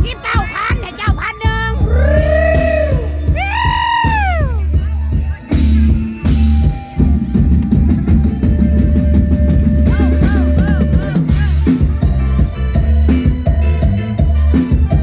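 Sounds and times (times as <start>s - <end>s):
heavy bass and drum beat: 0.0s - 15.0s
live band music: 0.0s - 15.0s
high bending melody: 0.9s - 15.0s.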